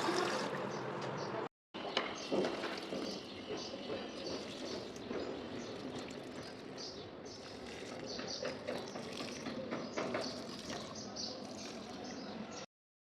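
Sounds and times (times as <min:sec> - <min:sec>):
water running and splashing: 0:00.0 - 0:00.7, 0:02.2 - 0:12.4.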